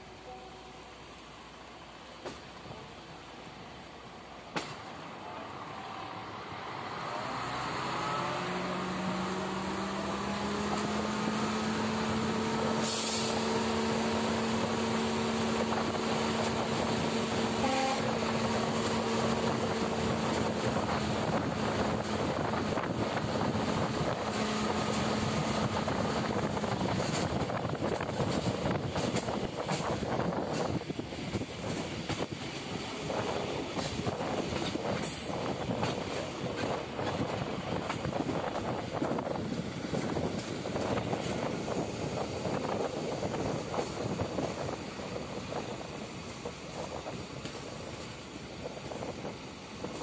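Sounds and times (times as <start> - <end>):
diesel railcar engine: 0.0 - 50.0
wheels rumbling on track: 0.0 - 50.0
wind: 0.0 - 50.0.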